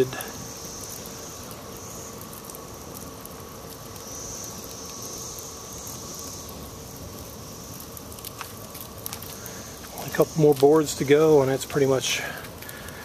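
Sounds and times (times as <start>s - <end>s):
fire burning with crackles: 0.0s - 13.0s
high insect drone: 0.0s - 13.0s.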